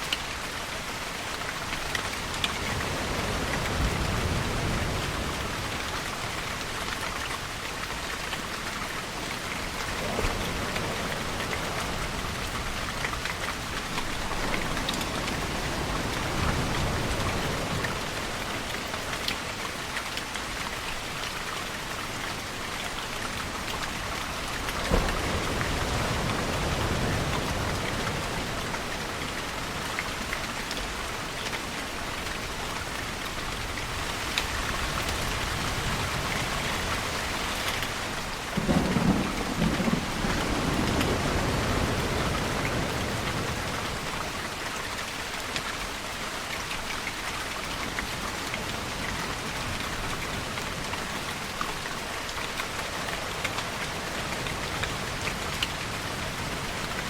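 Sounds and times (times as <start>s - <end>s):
individual raindrops: 0.0s - 57.0s
steady rain falling: 0.0s - 57.0s.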